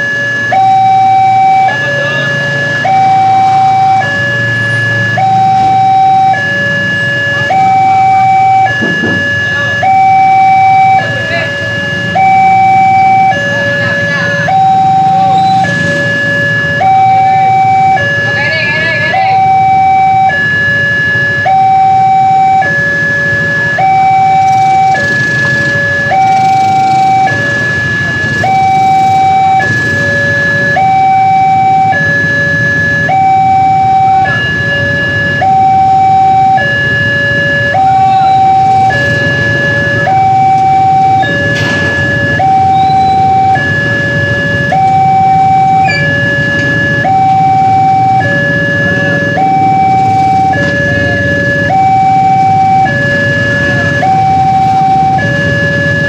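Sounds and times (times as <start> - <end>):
two-tone electronic crossing alarm: 0.0 - 56.0.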